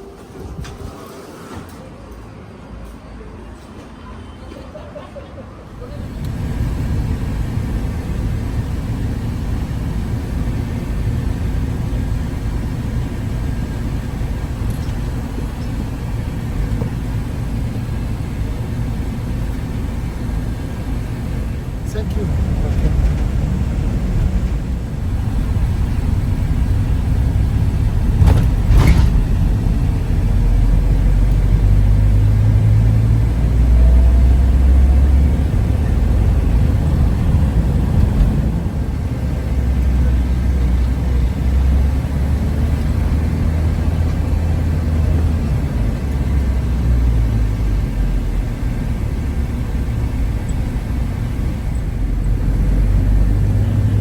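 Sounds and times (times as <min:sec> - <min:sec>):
vehicle interior rumble: 0:05.8 - 0:54.0.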